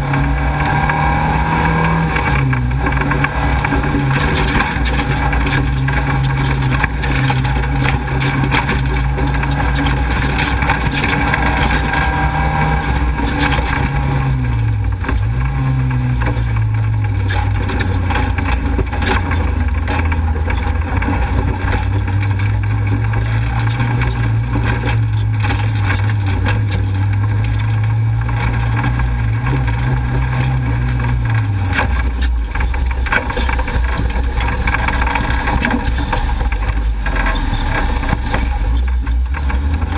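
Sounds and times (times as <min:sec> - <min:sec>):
race vehicle engine running hard: 0:00.0 - 0:39.9
wind and road noise: 0:00.0 - 0:39.9.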